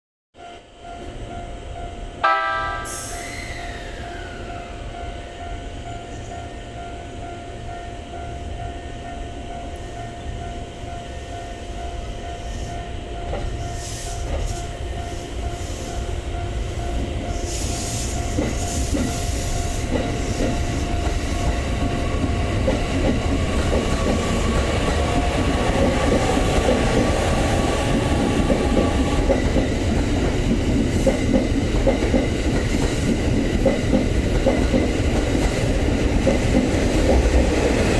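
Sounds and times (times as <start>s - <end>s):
electric train motor whine: 2.2s - 6.6s, 8.8s - 37.9s.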